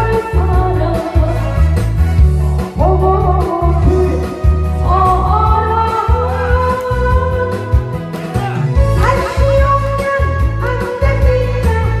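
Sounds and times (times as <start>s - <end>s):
woman singing into microphone: 0.0s - 1.6s, 2.7s - 8.0s, 8.8s - 12.0s
amplified backing track: 0.0s - 12.0s.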